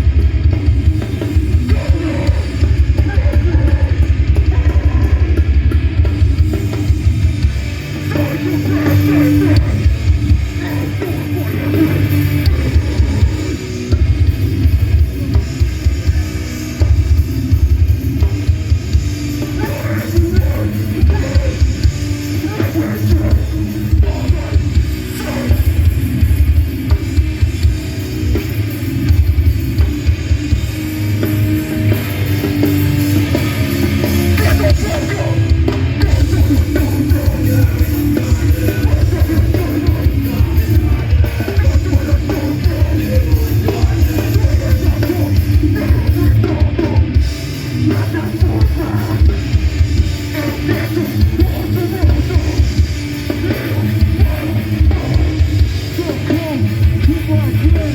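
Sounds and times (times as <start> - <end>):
distorted guitars and bass: 0.0 - 57.9
fast pounding drums: 0.0 - 57.9.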